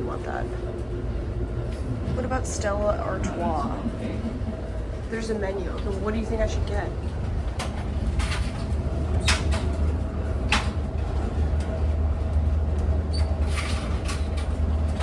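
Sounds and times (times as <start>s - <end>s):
railcar knocks and clatters: 0.0s - 15.0s
train rumble inside railcar: 0.0s - 15.0s.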